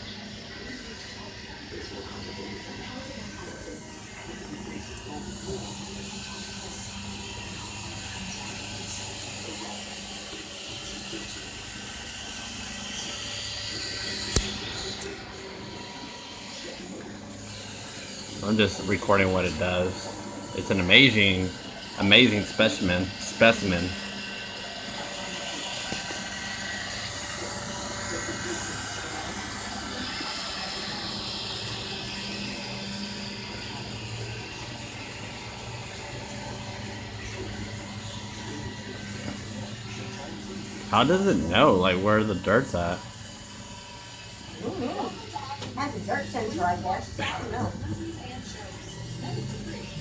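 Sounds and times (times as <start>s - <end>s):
robot vacuum humming: 0.0s - 50.0s.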